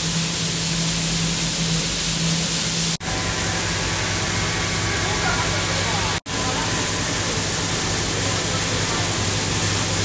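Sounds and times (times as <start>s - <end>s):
low machine hum: 0.0s - 10.0s
sorting machine rushing noise: 0.0s - 10.0s.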